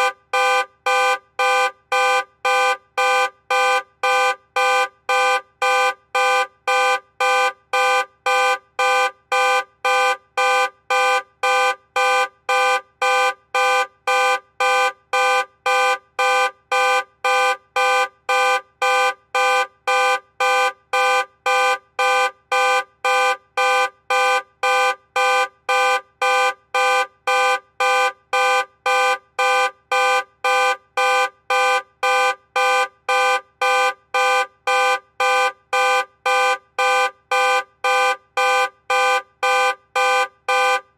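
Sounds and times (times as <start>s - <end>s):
car alarm blasts: 0.0s - 40.9s.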